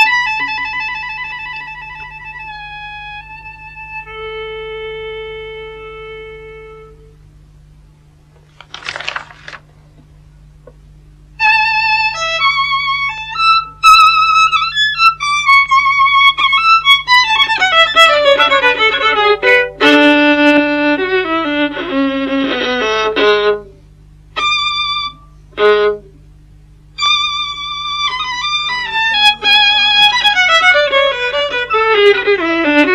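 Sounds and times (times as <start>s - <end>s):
solo violin: 0.0s - 7.0s, 11.4s - 23.7s, 24.4s - 26.1s, 27.0s - 32.9s.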